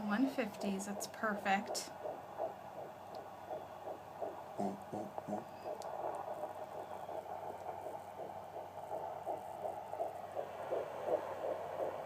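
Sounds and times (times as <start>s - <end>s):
fast fetal heartbeat pulsing: 0.0s - 12.0s.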